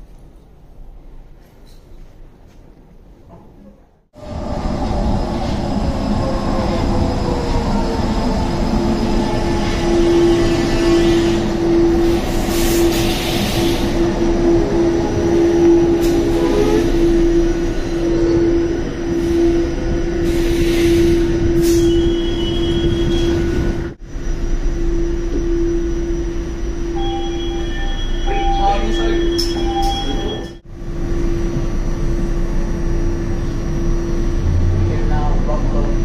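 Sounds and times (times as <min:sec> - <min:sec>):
standing train car hum: 0:00.0 - 0:36.0
light rail car whine: 0:04.2 - 0:36.0.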